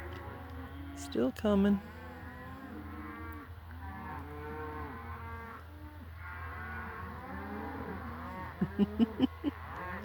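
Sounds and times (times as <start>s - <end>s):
cattle mooing and bawling: 0.0s - 10.0s.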